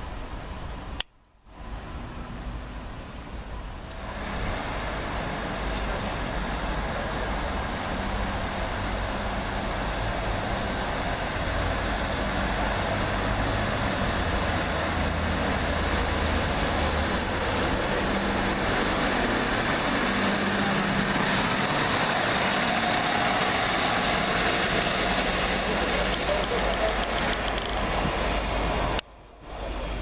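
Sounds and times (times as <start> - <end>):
train rumbling: 1.5 - 30.0.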